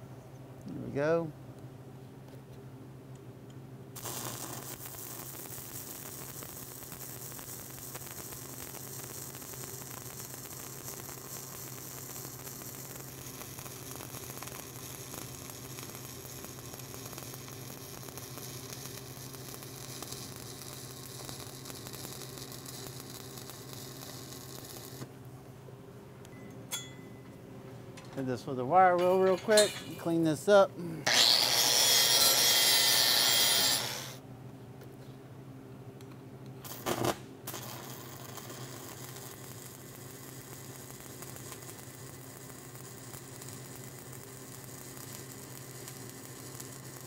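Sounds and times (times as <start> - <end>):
welding arc crackling sizzle: 3.9 - 25.2, 28.2 - 34.2, 36.6 - 47.0.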